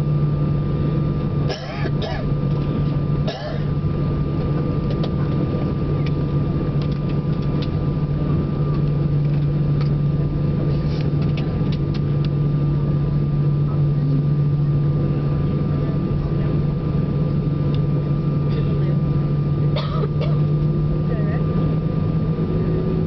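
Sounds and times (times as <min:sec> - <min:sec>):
airliner cabin drone: 0:00.0 - 0:23.0
idling jet engine whine: 0:00.0 - 0:23.0.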